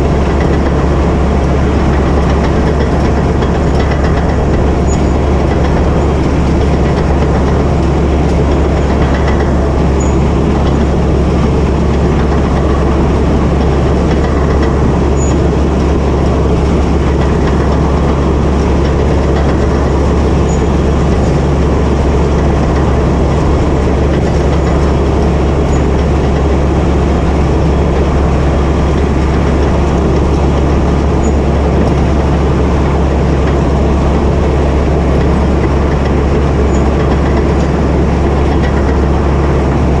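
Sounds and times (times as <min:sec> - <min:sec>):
diesel engine droning: 0:00.0 - 0:40.0
steel tracks running: 0:00.0 - 0:40.0.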